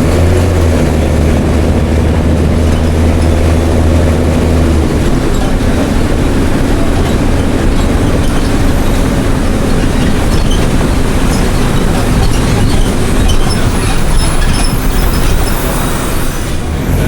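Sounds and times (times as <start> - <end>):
diesel bus engine rumbling: 0.0 - 17.0.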